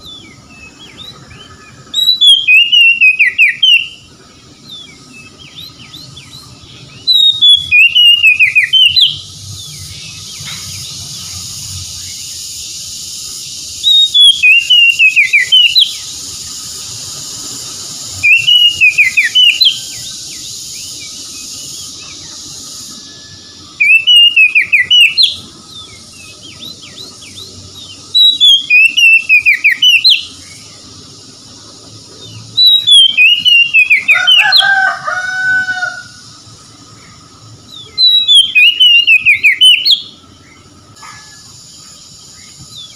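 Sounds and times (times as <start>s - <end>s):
bird singing whistled phrases: 0.0s - 16.7s, 17.5s - 30.6s, 32.2s - 34.9s, 37.7s - 41.4s
steady high hiss: 0.0s - 42.9s.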